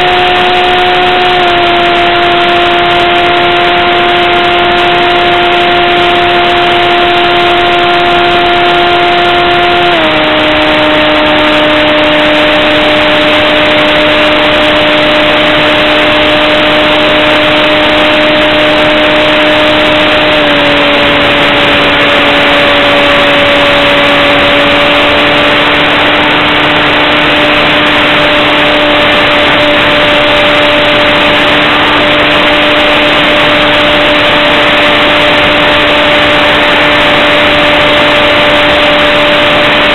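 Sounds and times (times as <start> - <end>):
model airplane motor and propeller: 0.0 - 39.9
rush of wind noise: 0.0 - 39.9.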